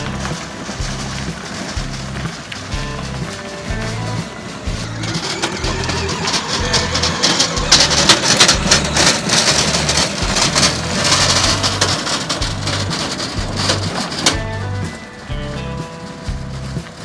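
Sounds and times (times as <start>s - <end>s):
loud hiss with crackling: 0.0s - 17.0s
music with stepping bass line: 0.0s - 17.0s.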